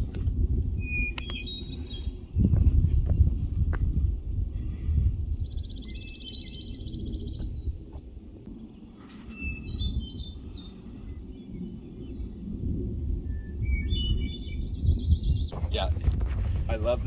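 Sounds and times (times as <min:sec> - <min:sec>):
songbirds singing: 0:00.0 - 0:16.0
wind rumble on microphone: 0:00.0 - 0:17.0.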